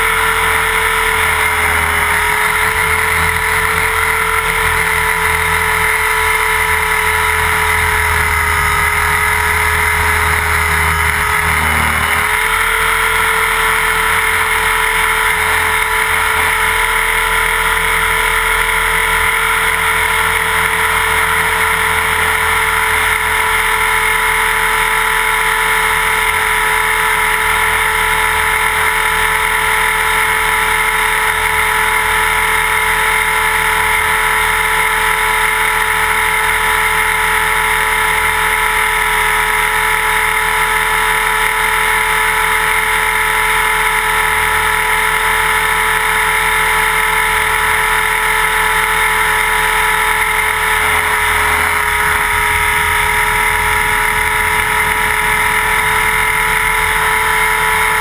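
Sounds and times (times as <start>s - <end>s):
rc helicopter rotor whine: 0.0s - 58.0s.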